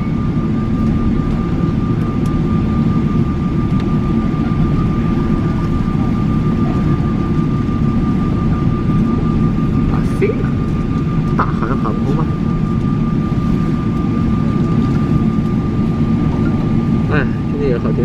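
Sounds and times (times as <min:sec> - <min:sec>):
jet engines rumbling: 0:00.0 - 0:18.0
thin steady whine: 0:00.0 - 0:18.0.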